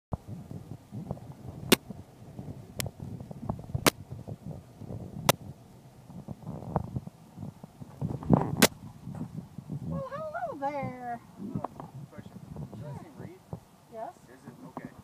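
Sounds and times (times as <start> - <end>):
car rolling rumble: 0.1 - 13.8.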